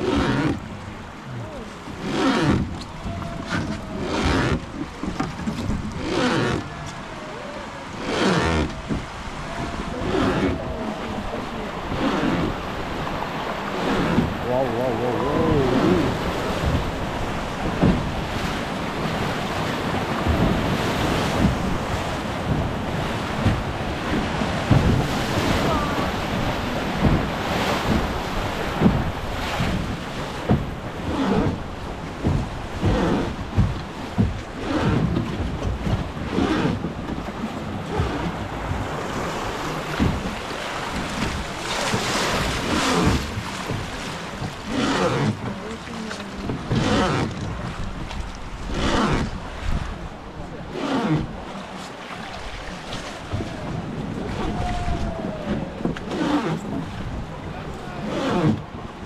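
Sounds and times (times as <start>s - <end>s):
wind buffeting microphone: 0.0s - 50.6s, 52.4s - 59.0s
rushing river water: 0.0s - 59.0s.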